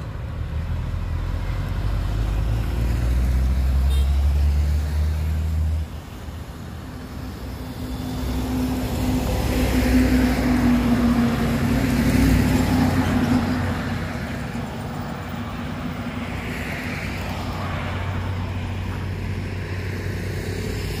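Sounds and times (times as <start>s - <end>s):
road traffic noise: 0.0s - 21.0s
truck diesel engine passing: 0.0s - 21.0s.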